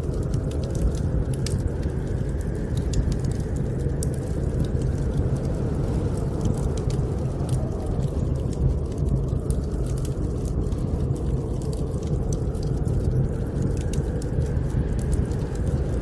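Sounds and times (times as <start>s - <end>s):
wood fire crackling: 0.0s - 16.0s
blizzard wind rushing: 1.7s - 16.0s.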